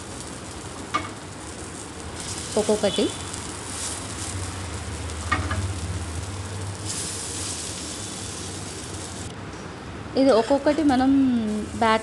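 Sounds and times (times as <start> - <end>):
patties sizzling on griddle: 0.0 - 9.3, 10.9 - 12.0.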